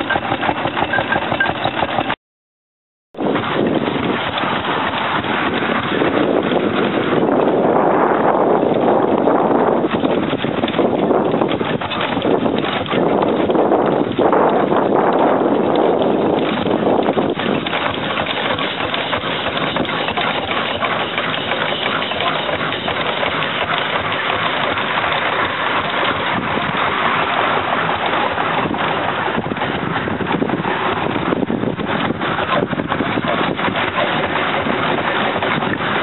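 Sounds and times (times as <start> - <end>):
steam traction engine running: 0.0 - 2.2, 3.2 - 36.0.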